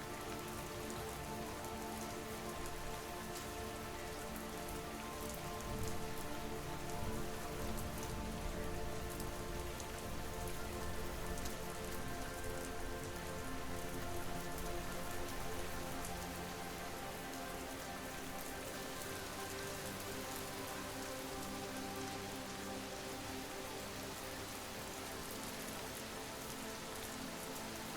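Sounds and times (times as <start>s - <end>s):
rain falling: 0.0s - 27.9s
soft sustained musical tones: 0.0s - 27.9s.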